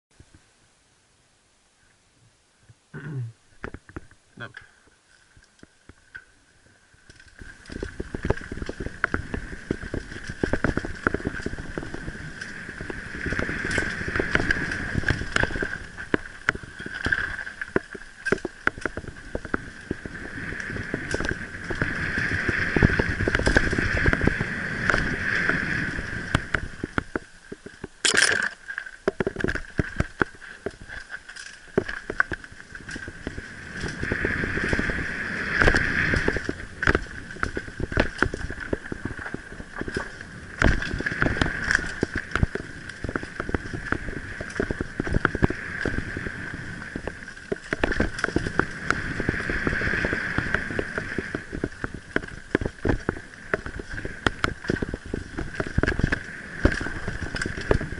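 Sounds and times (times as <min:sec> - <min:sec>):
tyre and wind rumble: 0:03.6 - 0:57.9
bike clattering over bumps: 0:07.0 - 0:57.9.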